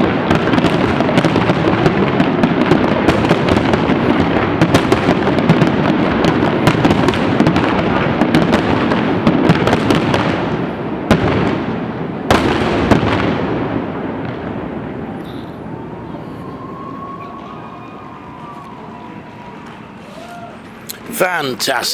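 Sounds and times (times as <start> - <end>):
fireworks crackling and banging: 0.0 - 21.9.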